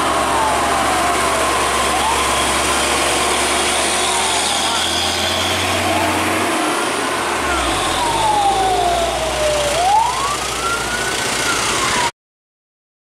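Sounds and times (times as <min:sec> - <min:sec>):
siren wailing: 0:00.0 - 0:12.1
truck engine rumble: 0:00.0 - 0:12.1.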